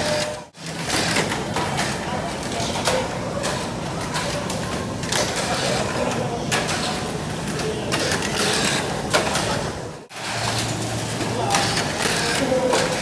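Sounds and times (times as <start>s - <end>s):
faint crowd chatter: 0.0s - 13.0s.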